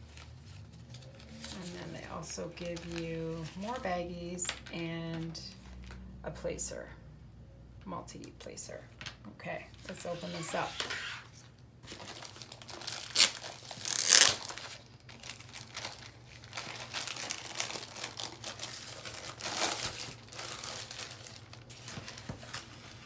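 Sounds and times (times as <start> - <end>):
plastic wrap crinkling: 0.0 - 6.1, 9.9 - 23.0.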